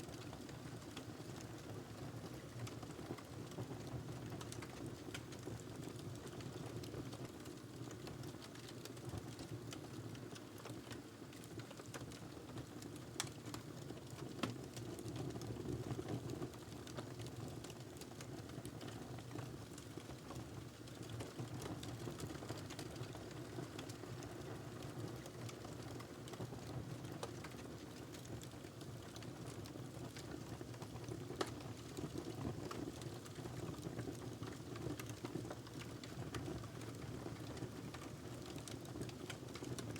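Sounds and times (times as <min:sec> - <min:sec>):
wood fire crackling: 0:02.4 - 0:39.9.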